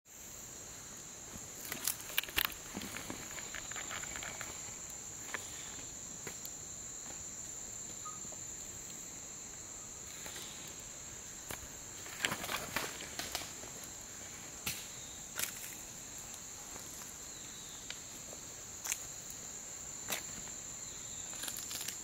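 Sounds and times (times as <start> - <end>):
shrill insect chorus: 0.1 - 22.0.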